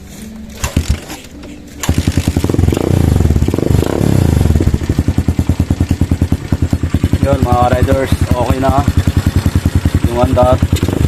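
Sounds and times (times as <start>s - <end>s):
motorcycle engine starting and running: 0.0s - 11.0s.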